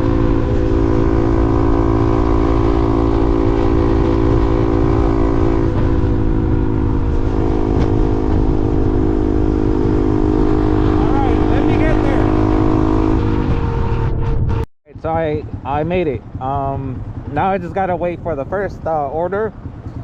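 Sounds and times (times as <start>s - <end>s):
vehicle engine drone: 0.0s - 20.0s
wind rumble on microphone: 0.0s - 20.0s.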